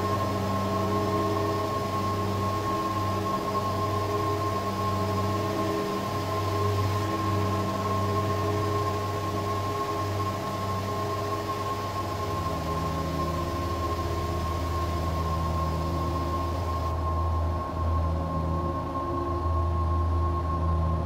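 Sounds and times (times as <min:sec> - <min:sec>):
constant hiss: 0:00.0 - 0:20.2.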